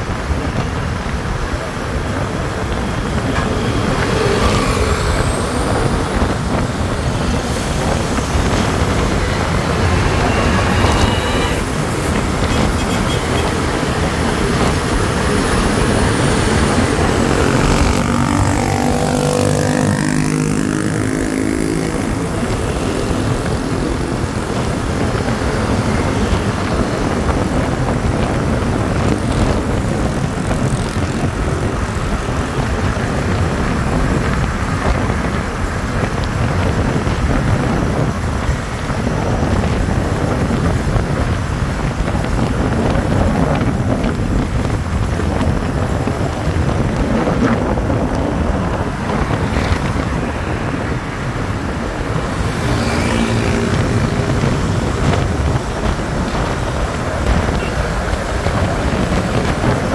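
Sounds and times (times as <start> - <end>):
truck passing by: 0.0 - 59.9
wind and road noise from motorcycle: 0.0 - 59.9.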